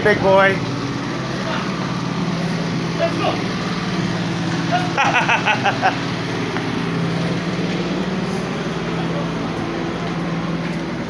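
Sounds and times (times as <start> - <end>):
refrigeration unit rushing noise: 0.0 - 11.0
truck running with low hum: 0.0 - 11.0.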